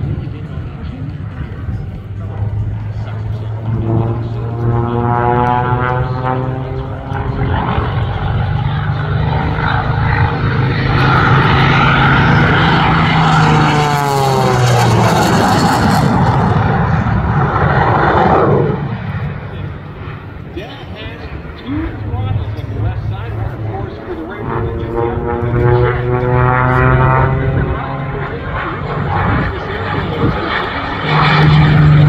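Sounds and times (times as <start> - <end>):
jet engine: 0.0 - 32.0
propeller plane engine droning: 0.0 - 32.0.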